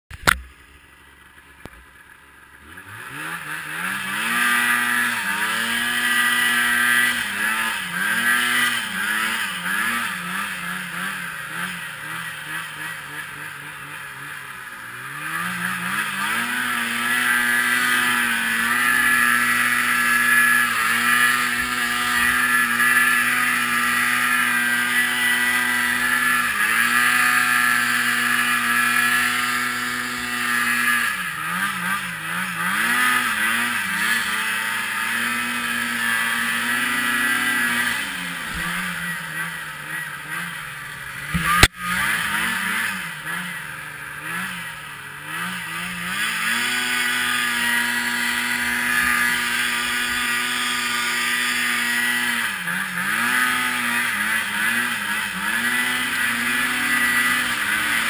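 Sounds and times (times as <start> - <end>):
snowmobile engine revving: 1.2 - 58.0.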